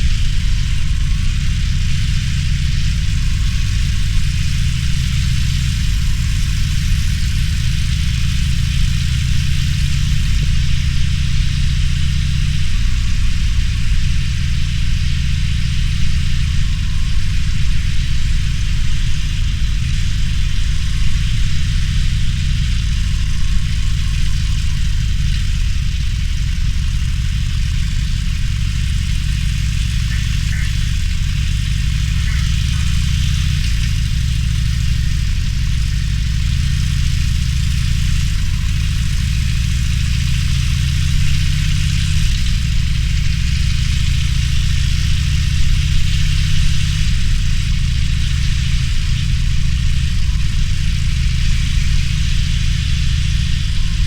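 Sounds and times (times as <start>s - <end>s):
motorcycle engine running: 0.0s - 54.0s
steady hiss: 0.0s - 54.0s.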